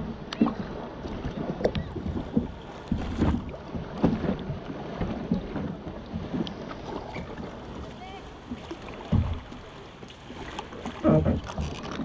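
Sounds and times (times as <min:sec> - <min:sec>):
kayak paddle splashing: 0:00.0 - 0:12.0
water washing against hull: 0:00.0 - 0:12.0.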